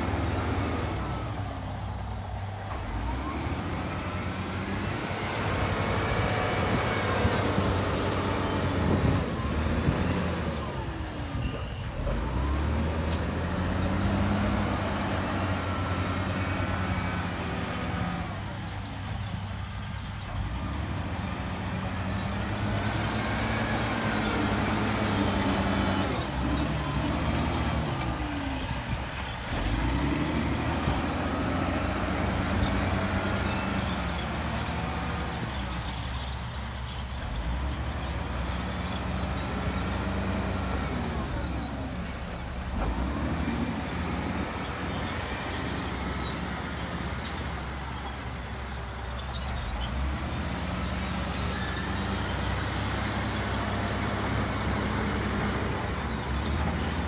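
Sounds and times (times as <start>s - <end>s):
heavy machinery diesel engines: 0.0s - 57.0s.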